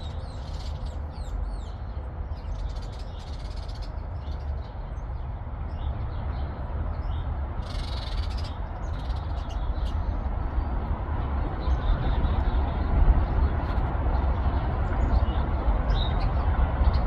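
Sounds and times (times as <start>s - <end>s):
steady low rumble: 0.0s - 17.0s
birds chirping: 2.4s - 17.0s.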